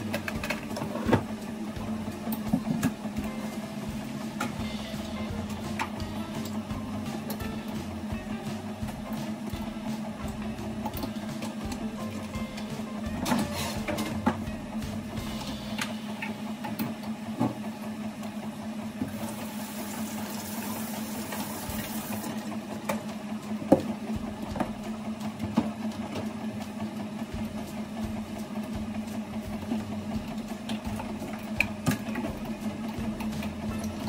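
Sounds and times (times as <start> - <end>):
household appliance humming: 0.0 - 34.0.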